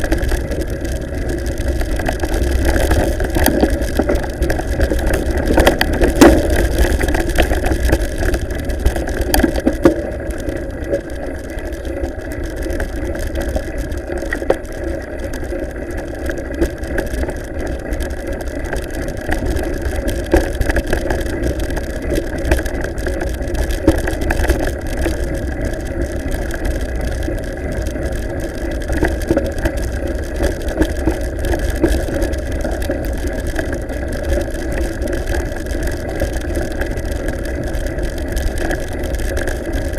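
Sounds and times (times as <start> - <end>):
bike rattles and knocks: 0.0 - 11.9, 12.5 - 39.9
tyres rolling on gravel: 0.0 - 39.9
wind rumbling on microphone: 0.0 - 39.9.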